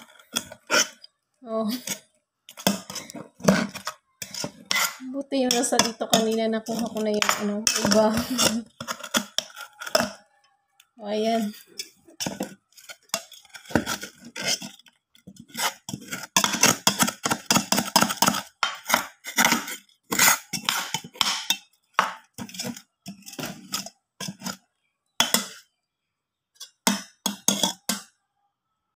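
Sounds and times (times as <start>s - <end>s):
metal spoon scraping a pot: 0.0s - 25.7s, 26.6s - 28.1s.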